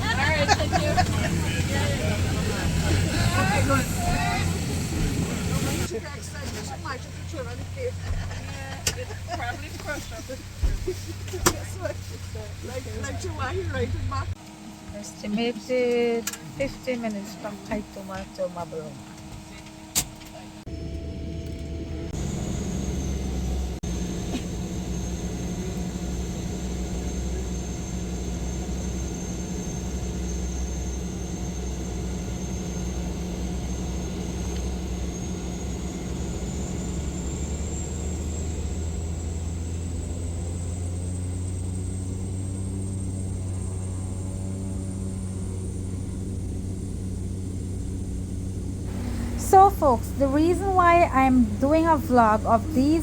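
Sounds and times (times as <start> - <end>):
airplane engine droning in cabin: 0.0 - 53.0.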